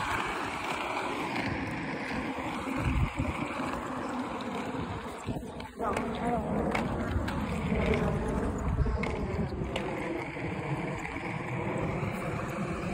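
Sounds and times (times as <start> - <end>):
skate wheels rolling on concrete: 0.0 - 12.9.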